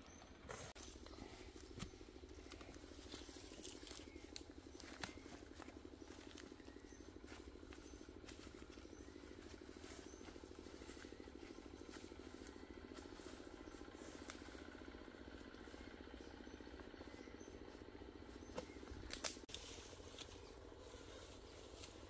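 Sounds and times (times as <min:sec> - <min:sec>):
faint fluttering engine drone: 0:00.0 - 0:22.0.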